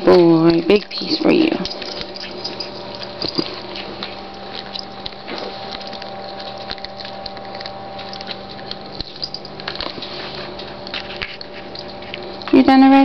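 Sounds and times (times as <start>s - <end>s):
dog chewing wet smacks: 0.1s - 12.5s.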